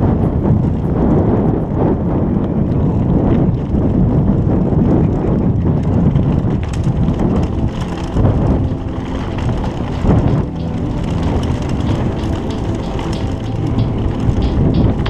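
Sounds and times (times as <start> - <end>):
bike clicks and rattles: 0.0 - 15.0
bike tyres rolling on gravel: 0.0 - 15.0
wind buffeting microphone: 0.0 - 15.0.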